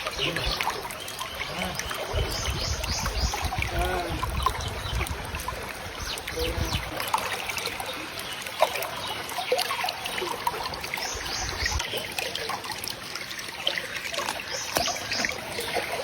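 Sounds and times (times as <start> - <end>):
small water splashes: 0.0 - 16.0
water trickling: 0.0 - 16.0.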